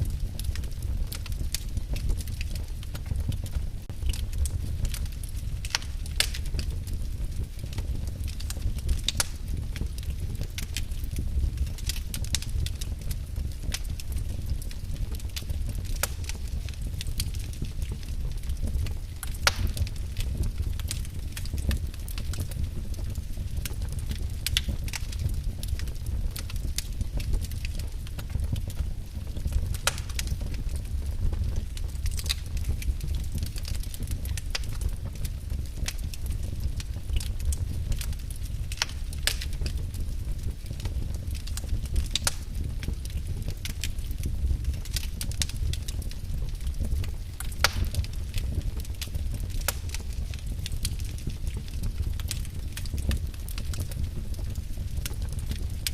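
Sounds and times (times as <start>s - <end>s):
sharp pops of burning wood: 0.0s - 55.9s
wood fire crackling: 0.0s - 55.9s.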